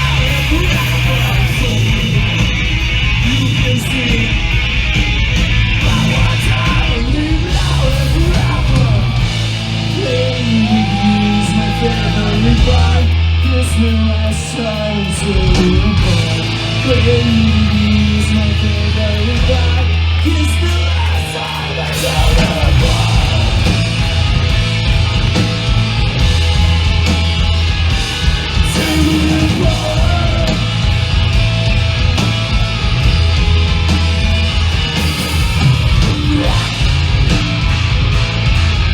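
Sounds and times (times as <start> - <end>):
live punk band playing: 0.0 - 38.9
yelled and sung vocals: 0.0 - 38.9.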